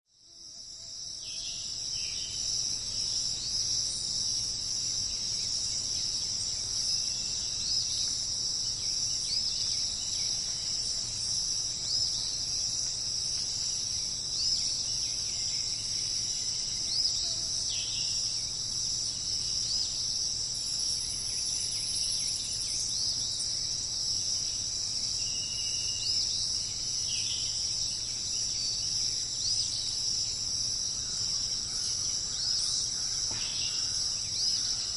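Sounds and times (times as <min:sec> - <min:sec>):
insect chorus: 0:00.1 - 0:34.9.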